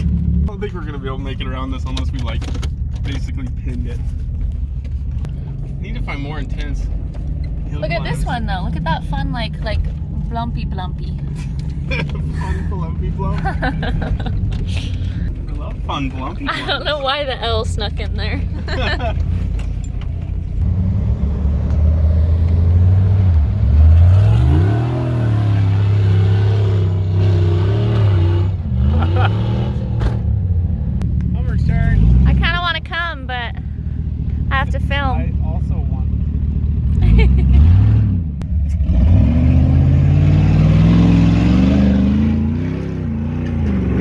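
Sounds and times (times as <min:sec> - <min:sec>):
vehicle engine revving: 0:00.0 - 0:44.0.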